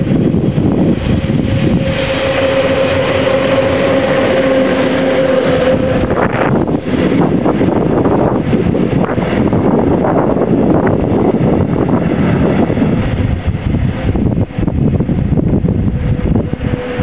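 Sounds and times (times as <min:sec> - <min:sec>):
mid-pitched whine: 0:00.0 - 0:17.0
train wheels rumbling on rail: 0:00.0 - 0:17.0.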